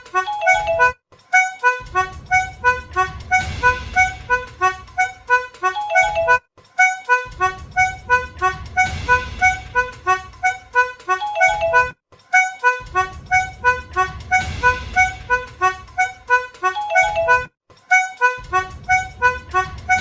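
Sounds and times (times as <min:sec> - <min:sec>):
reedy melody: 0:00.0 - 0:20.0.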